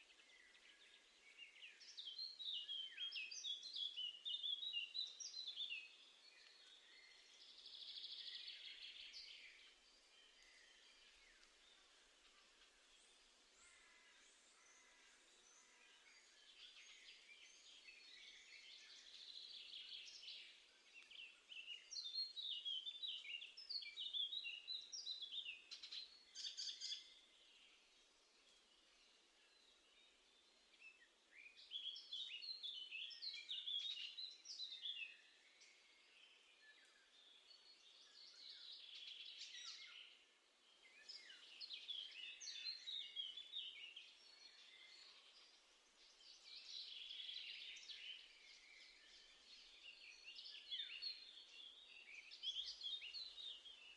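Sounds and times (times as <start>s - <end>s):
faint outdoor hiss: 0.0s - 53.9s
songbirds chirping: 0.0s - 53.9s.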